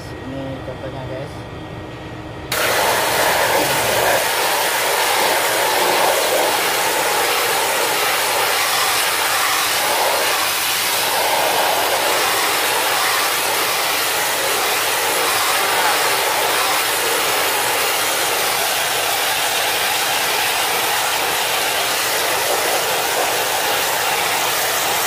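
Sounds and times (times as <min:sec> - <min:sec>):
high-pressure water jet hissing: 0:02.5 - 0:25.0.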